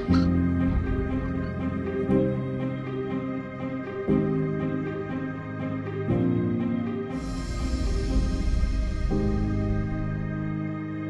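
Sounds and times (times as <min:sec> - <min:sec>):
sustained background music chords: 0:00.0 - 0:11.0.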